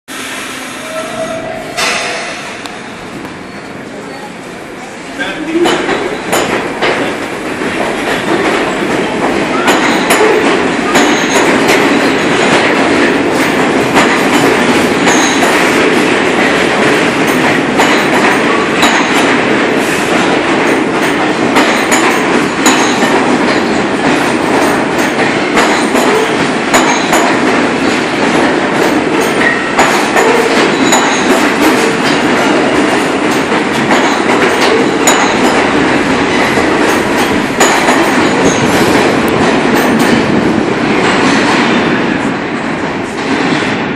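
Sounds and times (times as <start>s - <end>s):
subway train rumbling on rails: 0.1s - 43.9s.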